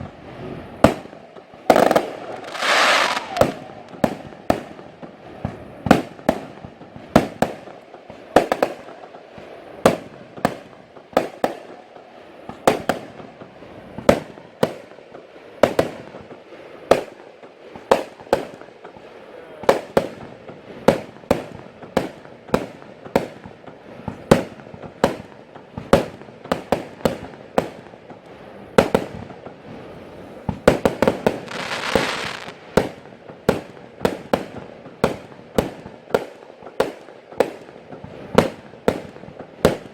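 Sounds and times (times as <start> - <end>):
fireworks shots: 0.0 - 39.9
hissing crackling firework burst: 0.0 - 39.9.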